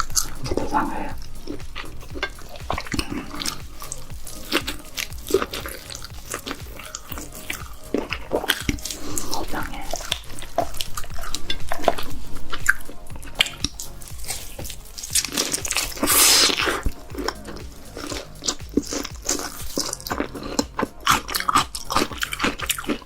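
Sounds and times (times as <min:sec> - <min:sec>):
crunching and chewing lobster: 0:00.0 - 0:23.0.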